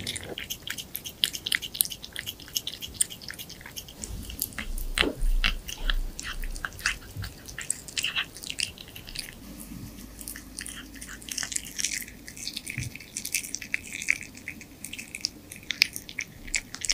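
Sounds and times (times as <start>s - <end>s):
cat chewing and licking: 0.0s - 16.9s.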